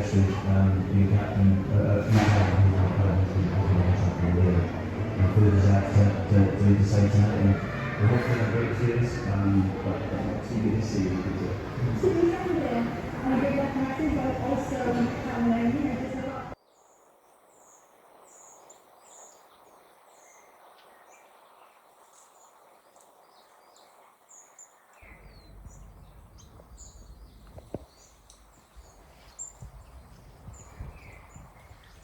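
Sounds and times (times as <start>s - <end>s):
faint outdoor hiss: 0.0s - 32.0s
small birds chirping: 2.8s - 32.0s.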